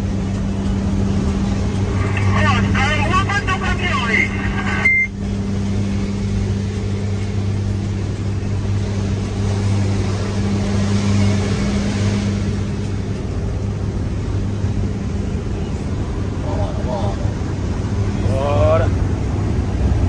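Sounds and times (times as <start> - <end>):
diesel truck engine droning: 0.0 - 20.0
road noise: 0.0 - 20.0.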